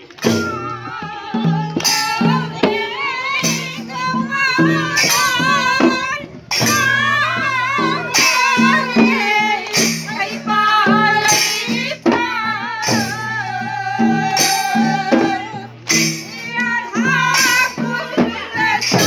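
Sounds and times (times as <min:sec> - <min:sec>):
barrel drums beaten: 0:00.1 - 0:19.0
devotional singing: 0:00.1 - 0:19.0.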